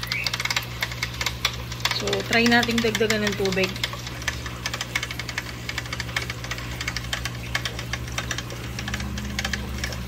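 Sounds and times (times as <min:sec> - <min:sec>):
pump humming and rattling: 0:00.0 - 0:10.0.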